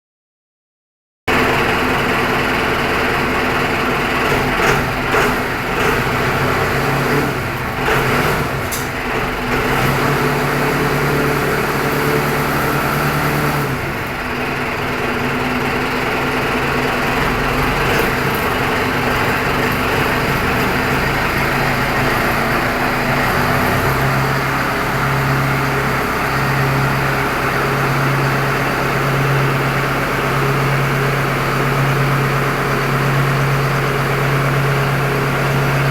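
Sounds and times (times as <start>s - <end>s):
small engine driving a pump: 1.3s - 35.9s.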